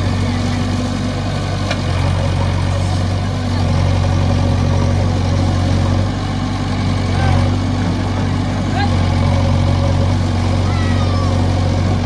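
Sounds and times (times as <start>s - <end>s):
diesel engine humming: 0.0s - 12.0s
loader bucket working mud: 0.0s - 12.0s.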